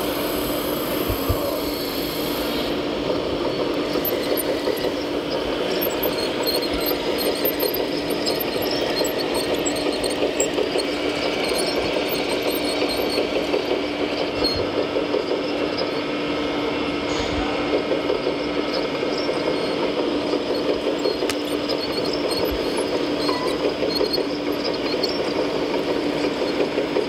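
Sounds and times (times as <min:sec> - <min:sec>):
model excavator humming: 0:00.0 - 0:27.0.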